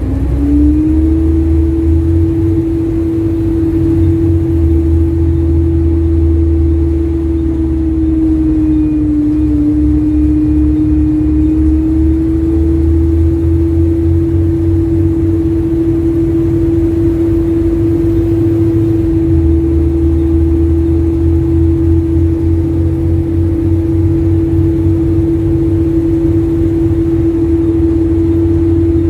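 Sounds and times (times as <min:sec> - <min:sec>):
bus engine rumbling with whine: 0:00.0 - 0:29.0
engine ticking: 0:00.0 - 0:29.0.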